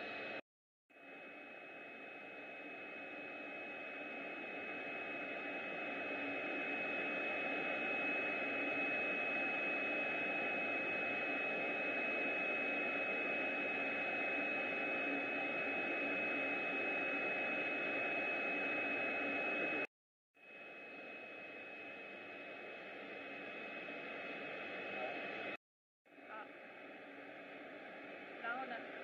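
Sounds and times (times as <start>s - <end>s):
high-pitched machine whine: 0.0s - 29.0s.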